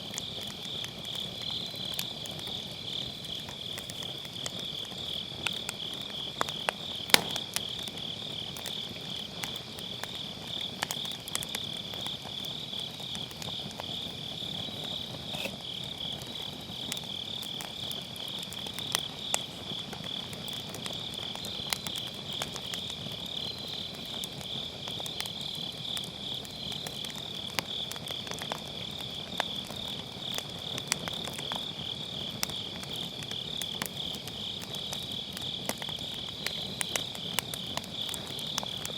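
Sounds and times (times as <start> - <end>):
insects chirping trill: 0.0 - 38.9
wood fire crackling and popping: 0.0 - 38.9.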